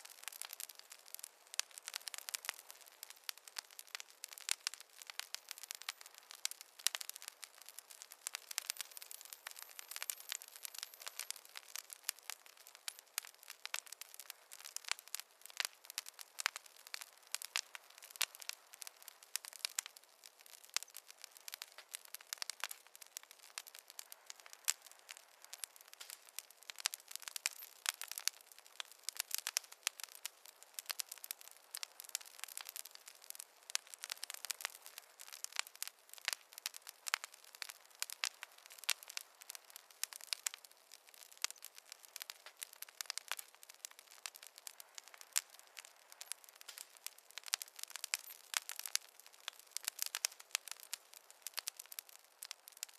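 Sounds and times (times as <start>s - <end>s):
fire crackling and popping: 0.0s - 52.9s
soft hiss: 0.0s - 52.9s.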